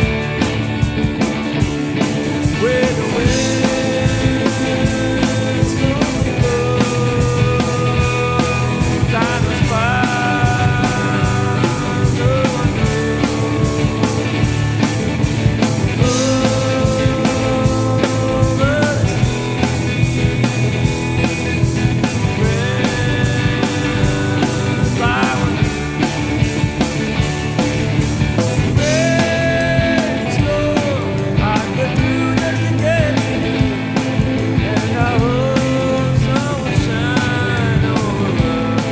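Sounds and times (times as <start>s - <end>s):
rock song with drums and guitar: 0.0s - 38.9s.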